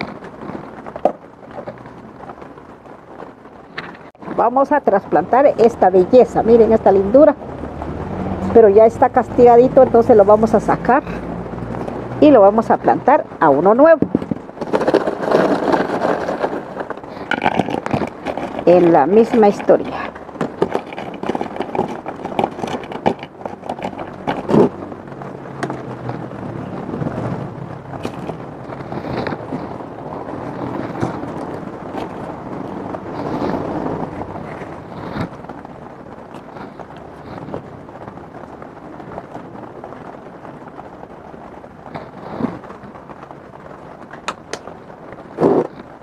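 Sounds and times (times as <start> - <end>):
soil and pot scraping and crackling: 0.0 - 46.0.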